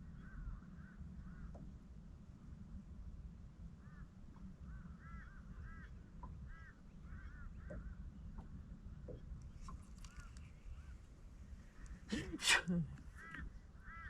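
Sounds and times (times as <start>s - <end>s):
faint bird calls: 0.0s - 1.8s, 3.7s - 14.0s
steady low rumble: 0.0s - 14.0s.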